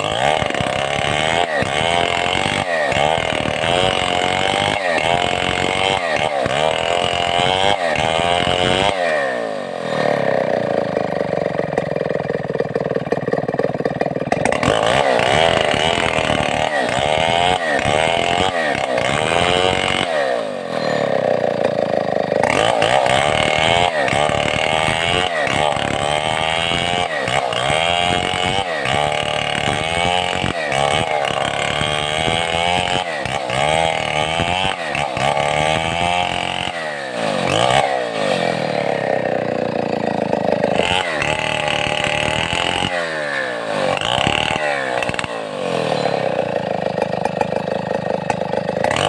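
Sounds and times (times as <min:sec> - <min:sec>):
chainsaw revving and idling: 0:00.0 - 0:49.0.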